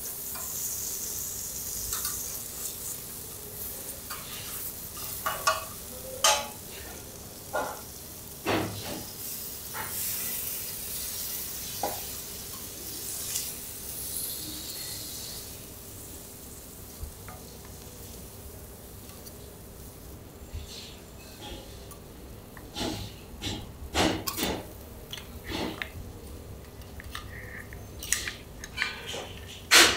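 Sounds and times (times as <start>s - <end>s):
food sizzling on griddle: 0.0s - 25.8s.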